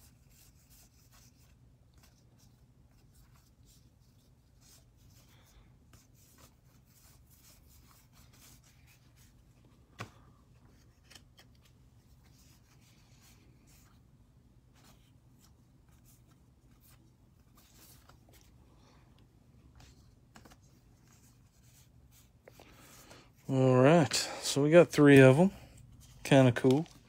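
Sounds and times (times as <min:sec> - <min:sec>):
paper cards rustling and sliding: 0:00.0 - 0:27.0.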